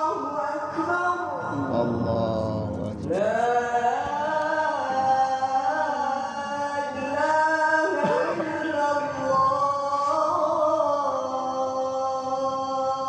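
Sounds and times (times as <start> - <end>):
man chanting a recitation: 0.0 - 13.0.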